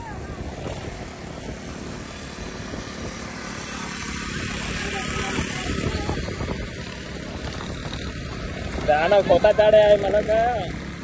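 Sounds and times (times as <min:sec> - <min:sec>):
small motorcycle engines running: 0:00.0 - 0:11.0
steady rushing noise: 0:00.0 - 0:11.0.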